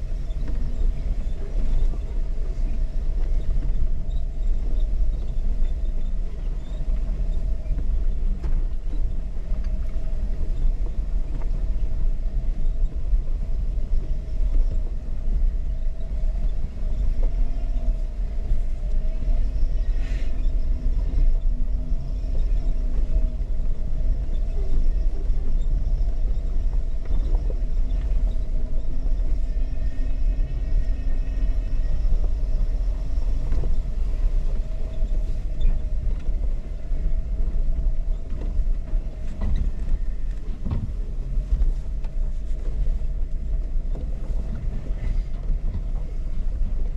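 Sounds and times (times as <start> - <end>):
engine low rumble: 0.0 - 46.9.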